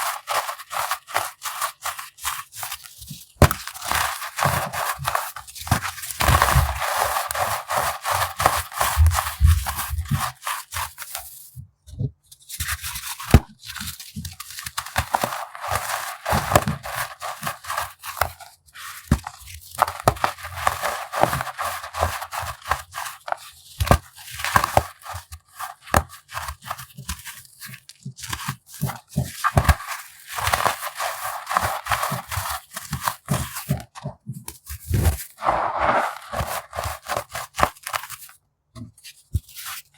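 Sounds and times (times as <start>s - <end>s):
baking soda crunching: 0.0s - 11.1s, 13.3s - 25.9s, 28.8s - 33.8s, 34.8s - 38.3s.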